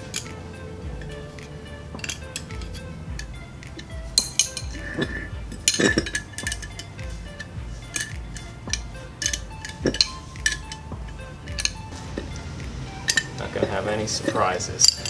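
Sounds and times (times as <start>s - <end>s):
background music: 0.0s - 15.0s
wrench clinking on metal bolts: 0.0s - 15.0s.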